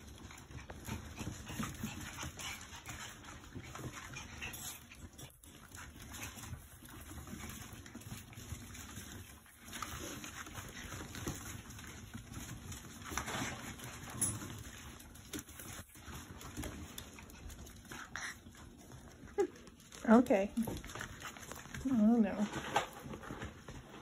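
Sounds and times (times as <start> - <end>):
dogs scuffling: 0.0 - 24.0
small dog noises: 0.0 - 24.0.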